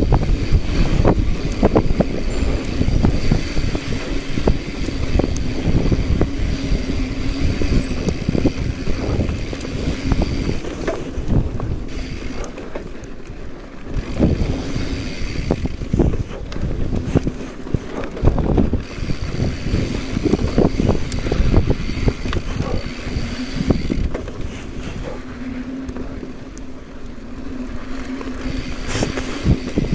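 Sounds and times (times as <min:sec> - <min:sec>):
wind on microphone: 0:00.0 - 0:12.8, 0:13.9 - 0:29.9
freewheel hub buzzing: 0:00.0 - 0:13.1, 0:13.7 - 0:29.9
bicycle frame and chain rattling: 0:00.0 - 0:29.9.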